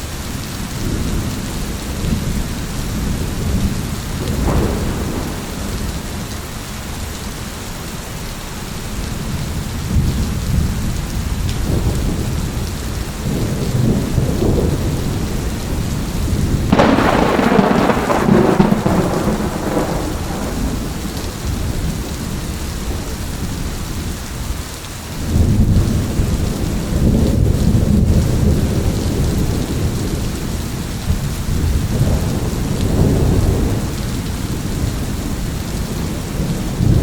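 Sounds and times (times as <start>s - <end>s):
steady rain: 0.0s - 37.0s
loud thunderclap: 0.8s - 6.5s, 11.4s - 23.6s, 25.2s - 37.0s
rolling thunder: 0.8s - 7.0s, 9.2s - 24.6s, 25.2s - 37.0s.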